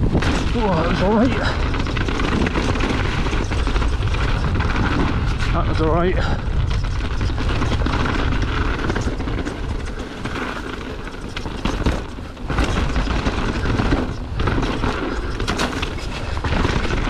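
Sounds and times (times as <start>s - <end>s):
bike rattling: 0.0s - 17.0s
tyres crunching over stones: 0.0s - 17.0s
wind rumbling on microphone: 0.0s - 17.0s.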